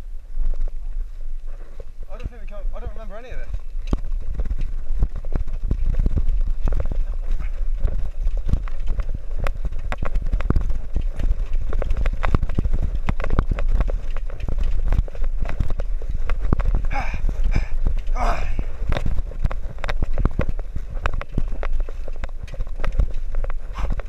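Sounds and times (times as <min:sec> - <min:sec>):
low tyre rumble: 0:00.0 - 0:24.0
bicycle basket rattling: 0:00.1 - 0:24.0.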